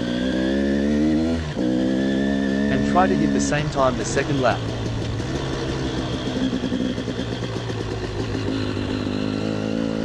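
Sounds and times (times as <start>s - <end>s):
two-stroke motorcycle engine running: 0.0s - 10.0s.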